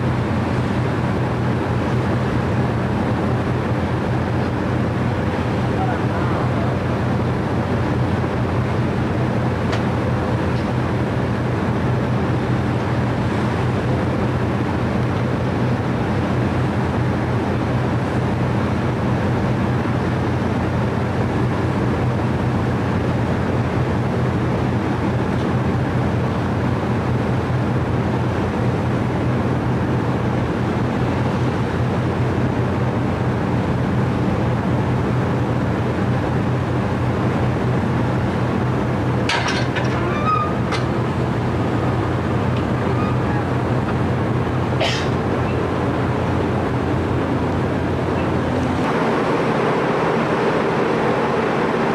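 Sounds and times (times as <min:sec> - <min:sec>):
constant rushing noise: 0:00.0 - 0:51.9
low engine drone: 0:00.0 - 0:51.9.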